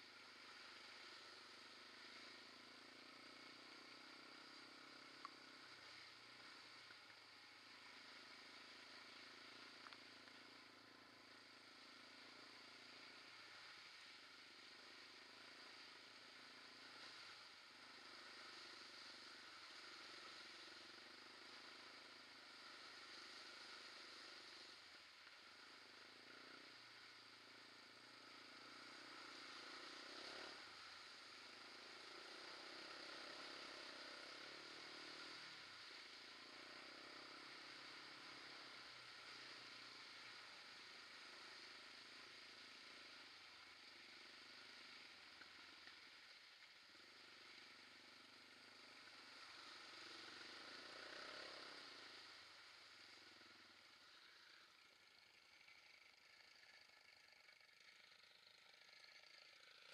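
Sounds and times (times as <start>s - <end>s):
faint quad bike engine: 0.0s - 59.9s.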